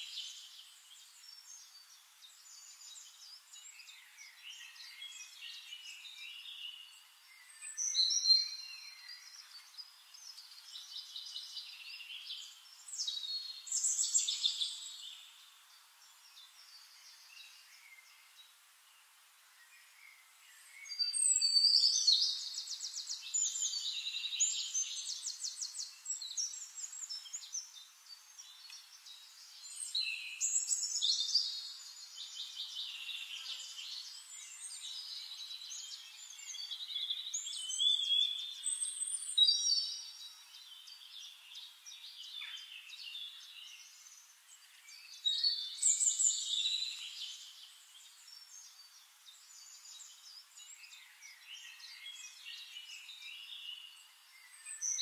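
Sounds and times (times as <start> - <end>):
songbirds singing with trills: 0.0 - 55.0.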